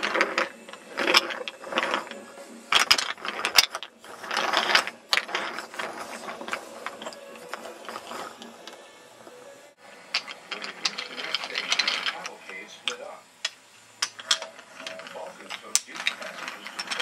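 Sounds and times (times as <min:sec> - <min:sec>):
toy train wheels clattering on track: 0:00.0 - 0:08.8, 0:10.1 - 0:17.0.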